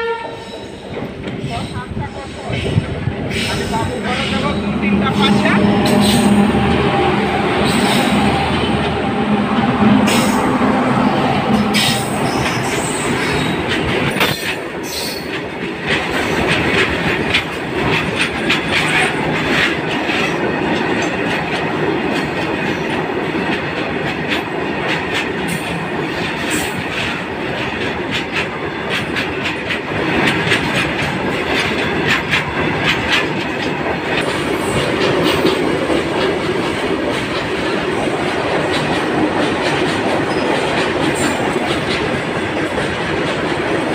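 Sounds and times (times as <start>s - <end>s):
freight wagons rumbling on rails: 0.3s - 43.9s
wheels clacking over rail joints: 0.8s - 43.9s.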